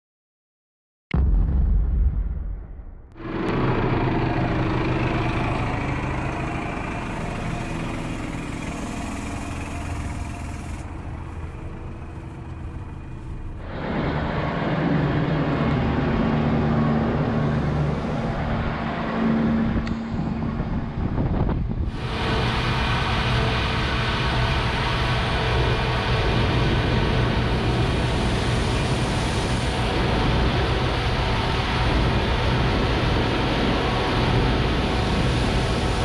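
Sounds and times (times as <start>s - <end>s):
tractor diesel engine: 3.2s - 21.1s, 21.9s - 36.0s
combine harvester engine hum: 3.2s - 36.0s.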